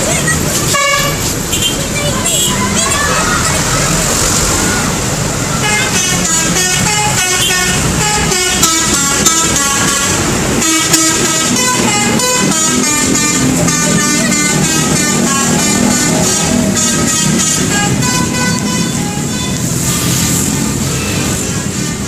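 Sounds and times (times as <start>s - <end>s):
musical bus horn: 0.7s - 3.0s, 5.6s - 21.9s.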